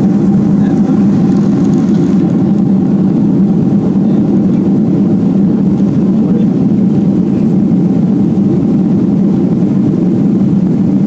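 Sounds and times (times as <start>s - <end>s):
jet engines droning in cabin: 0.0s - 11.0s
rushing air: 0.0s - 11.0s.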